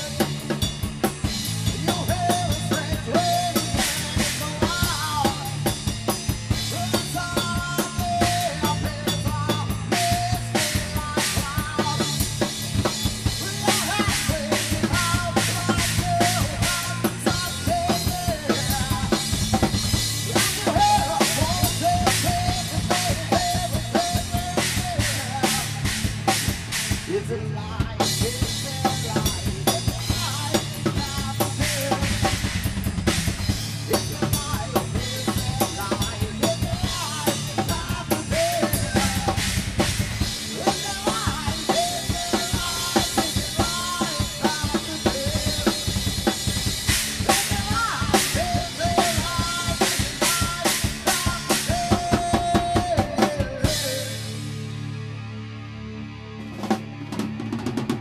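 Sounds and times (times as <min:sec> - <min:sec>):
drum kit beat: 0:00.0 - 0:54.9, 0:56.5 - 0:58.0
electric bass line: 0:00.0 - 0:58.0.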